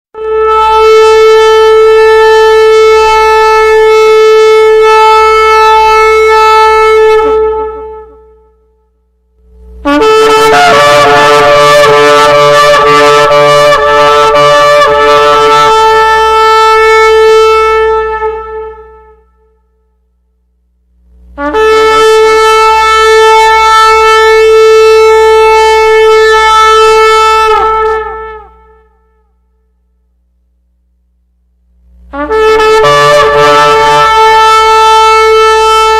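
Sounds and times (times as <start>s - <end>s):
shofar blasts: 0.1s - 8.9s, 9.7s - 19.9s, 21.4s - 29.7s, 32.1s - 35.9s.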